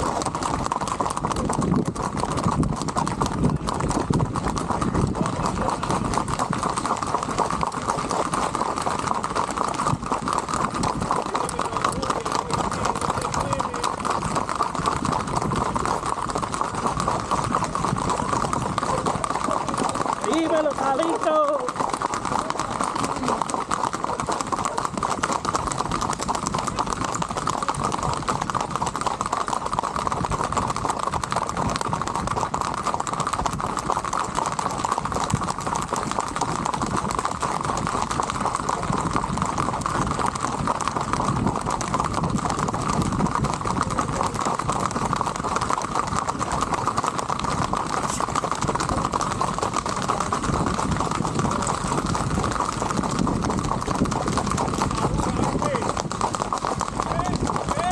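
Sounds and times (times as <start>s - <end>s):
horse hooves clip-clopping on asphalt: 0.0s - 57.9s.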